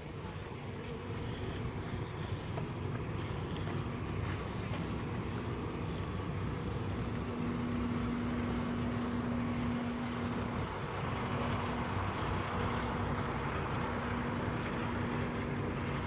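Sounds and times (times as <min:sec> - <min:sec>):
engine hum: 0:00.0 - 0:16.0
rushing road noise: 0:00.0 - 0:16.0.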